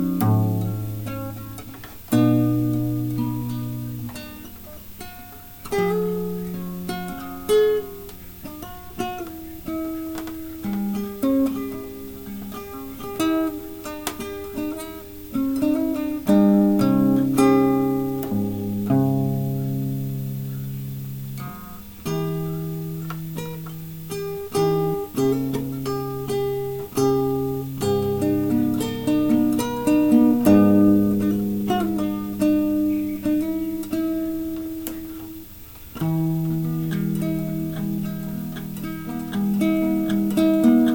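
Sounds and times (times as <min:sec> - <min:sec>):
acoustic guitar instrumental: 0:00.0 - 0:40.9.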